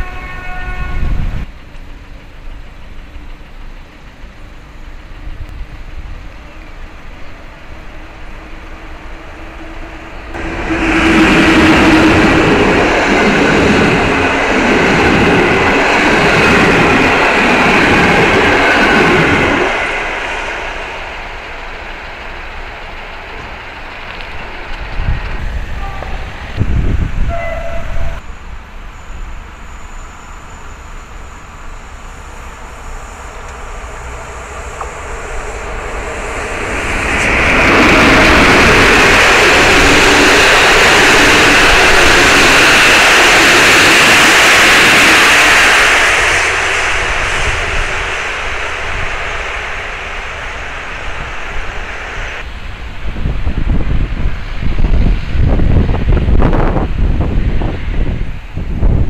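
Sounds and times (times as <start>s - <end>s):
train wheels rushing on rails: 0.0s - 59.0s.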